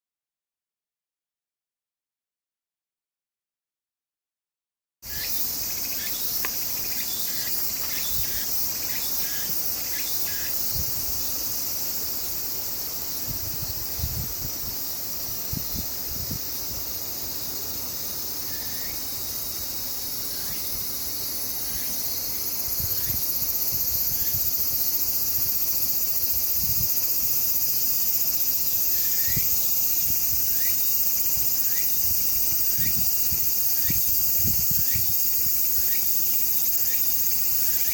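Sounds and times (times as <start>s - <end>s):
insects buzzing and trilling: 5.0s - 37.9s.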